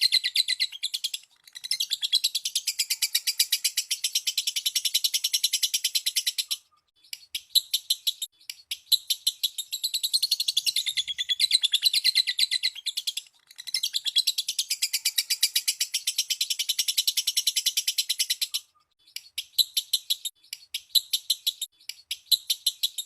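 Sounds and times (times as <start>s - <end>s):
lovebird chattering trill: 0.0s - 23.0s.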